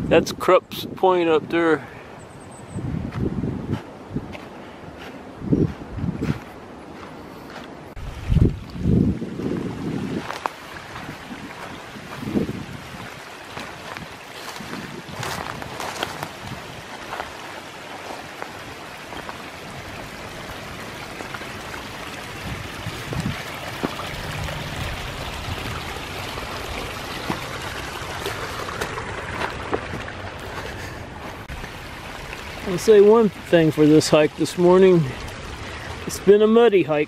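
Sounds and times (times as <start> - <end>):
stream water rushing: 6.7 - 37.0.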